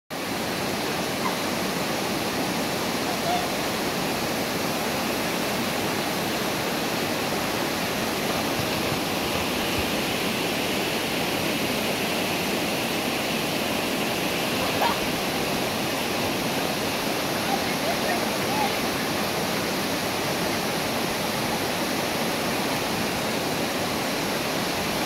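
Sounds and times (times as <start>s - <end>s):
stream water rushing: 0.1s - 25.0s.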